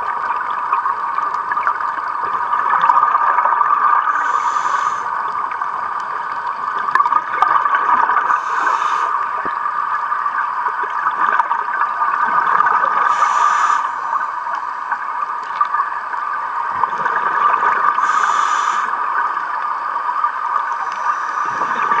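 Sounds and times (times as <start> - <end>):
bubbly exhaled air underwater: 0.0 - 22.0
steady underwater hum: 0.0 - 22.0.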